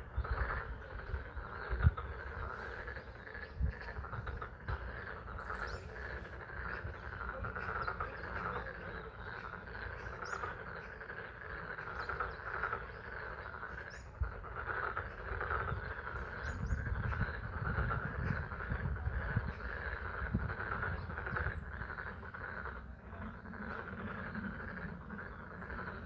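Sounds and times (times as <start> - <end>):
frogs calling: 0.0 - 26.0.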